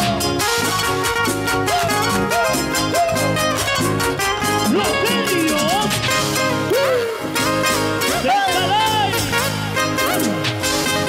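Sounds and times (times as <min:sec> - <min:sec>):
live band playing dance music: 0:00.0 - 0:11.0.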